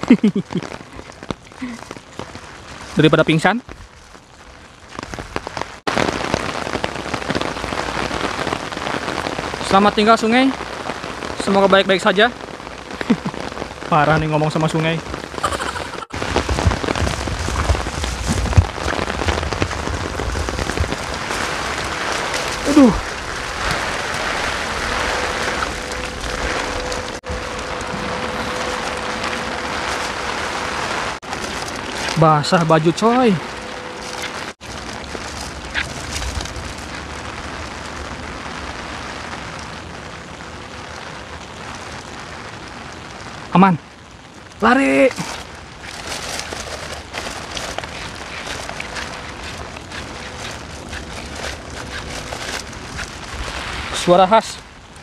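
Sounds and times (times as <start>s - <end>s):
heavy rain on an umbrella: 0.0s - 55.0s.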